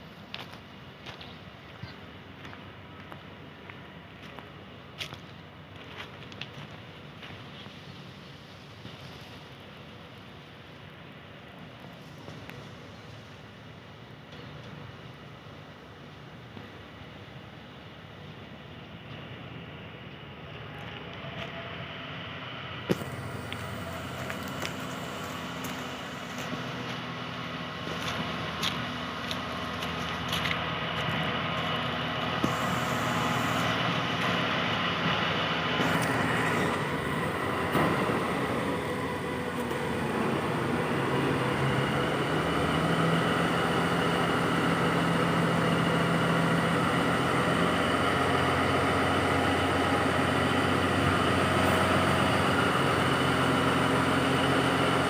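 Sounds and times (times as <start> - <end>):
locomotive diesel engine running: 0.0 - 55.0.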